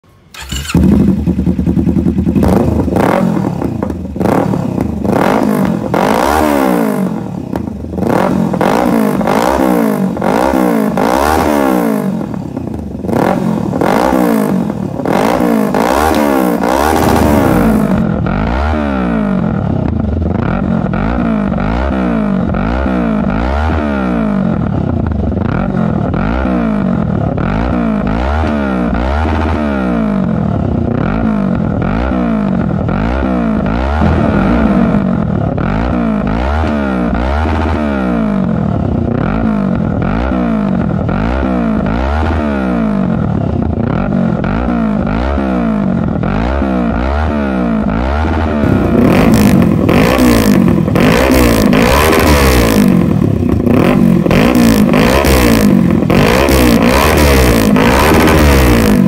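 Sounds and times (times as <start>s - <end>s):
motorcycle engine revving: 0.3s - 59.0s.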